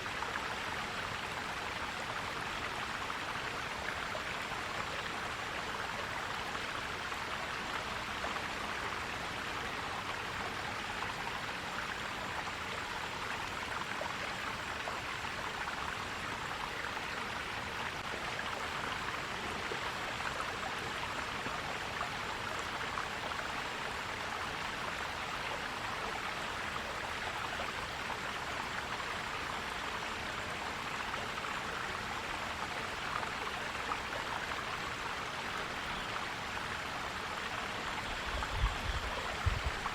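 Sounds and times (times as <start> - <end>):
stream flowing and gurgling: 0.0 - 39.9.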